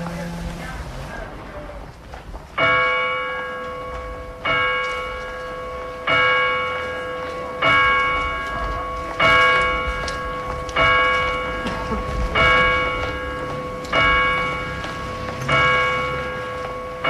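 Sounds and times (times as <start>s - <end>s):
bell tolling: 2.6s - 17.0s.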